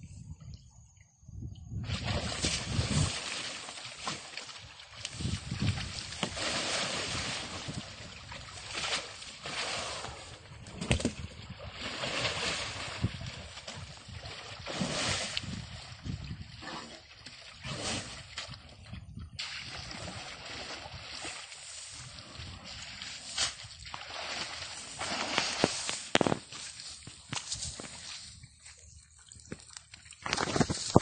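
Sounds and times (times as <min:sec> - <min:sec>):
water sloshing around elephant: 0:01.8 - 0:10.8, 0:11.4 - 0:18.8, 0:19.4 - 0:31.0.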